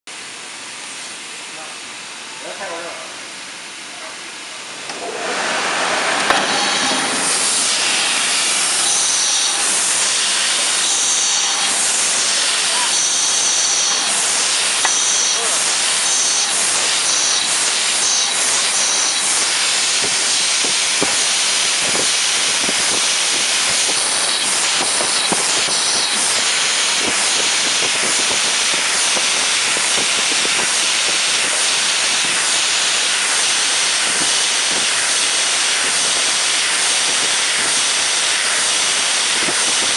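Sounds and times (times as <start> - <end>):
bottling machine hissing: 0.8 - 39.9.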